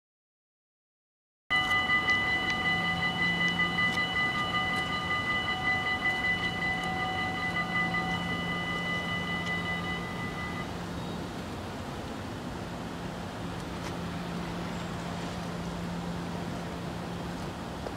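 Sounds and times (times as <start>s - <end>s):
level-crossing warning bells: 1.5s - 17.9s
low hum: 1.5s - 17.9s.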